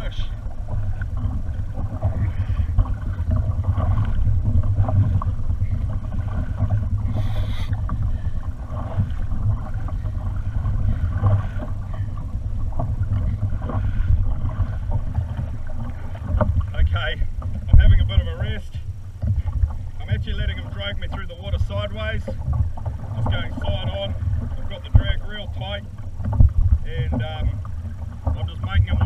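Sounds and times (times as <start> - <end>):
steady low rumble: 0.0 - 29.0
water rushing along kayak hull: 0.0 - 29.0
water splash: 0.0 - 29.0.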